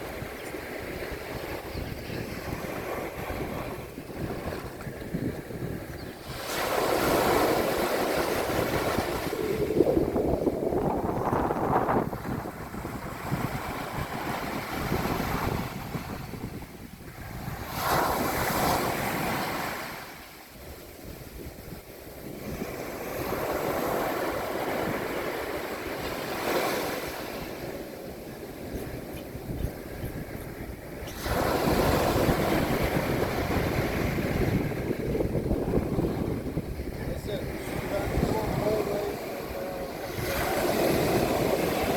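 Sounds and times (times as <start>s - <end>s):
waves breaking on a beach: 0.0s - 41.9s
wind buffeting microphone: 0.0s - 41.9s.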